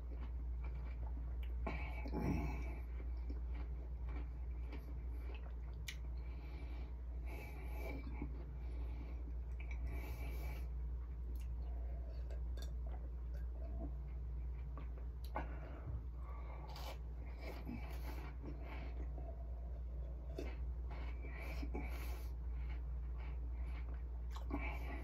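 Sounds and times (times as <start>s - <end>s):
person chewing: 0.0s - 25.0s
steady low hum: 0.0s - 25.0s.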